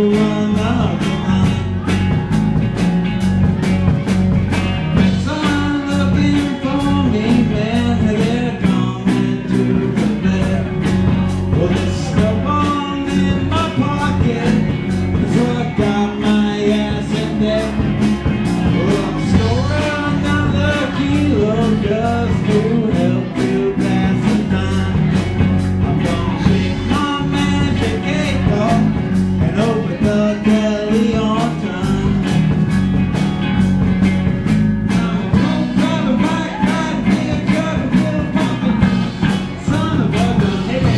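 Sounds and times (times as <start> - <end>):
drums and cymbals beat: 0.0 - 40.9
live rock band playing: 0.0 - 40.9.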